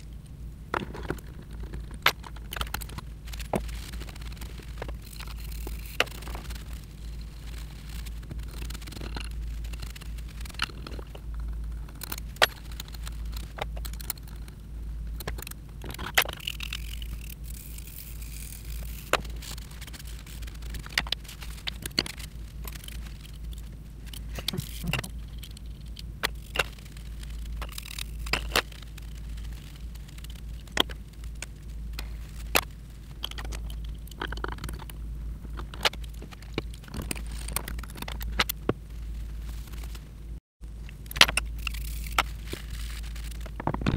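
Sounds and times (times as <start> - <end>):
steady low hum: 0.0 - 43.9
metal parts clicking and knocking: 0.7 - 14.6, 15.2 - 38.7, 40.8 - 43.9.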